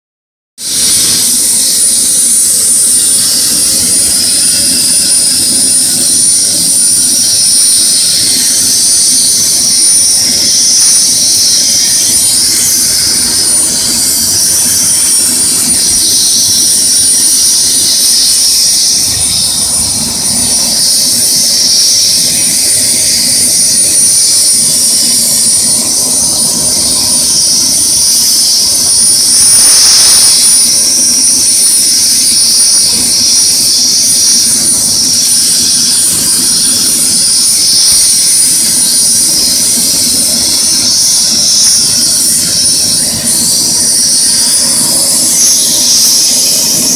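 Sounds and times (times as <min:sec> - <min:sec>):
helicopter rotor rush: 0:00.6 - 0:46.9
helicopter turbine whine: 0:00.6 - 0:46.9.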